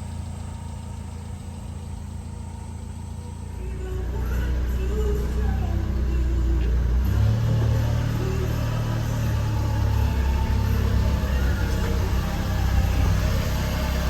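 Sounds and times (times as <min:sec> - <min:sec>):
small truck engine running: 0:00.0 - 0:14.0.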